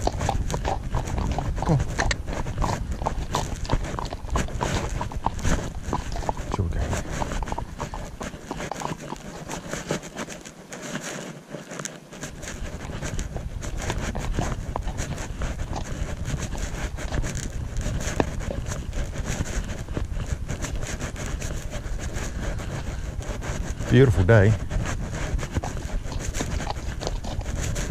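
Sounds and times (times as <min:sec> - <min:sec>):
wind buffeting microphone: 0:00.0 - 0:08.3, 0:12.6 - 0:27.9
horse hooves on grass: 0:00.0 - 0:27.9.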